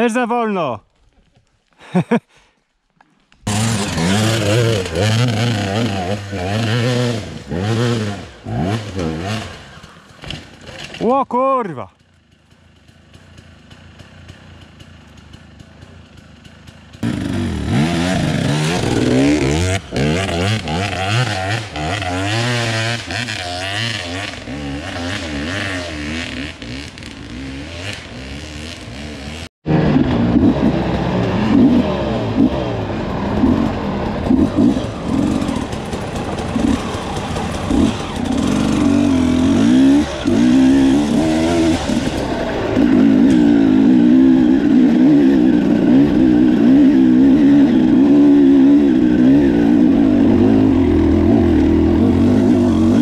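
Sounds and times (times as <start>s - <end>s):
motorcycle engines revving: 3.4s - 11.0s, 12.0s - 53.0s.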